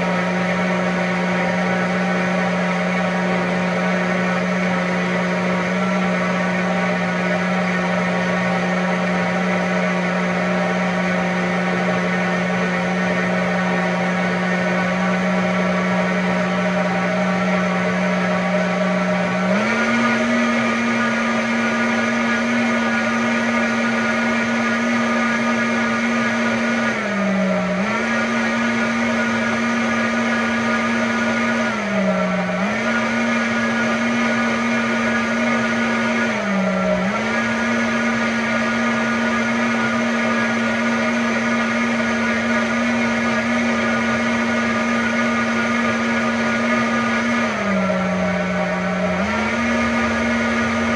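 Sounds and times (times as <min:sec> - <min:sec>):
blender running: 0:00.0 - 0:50.9.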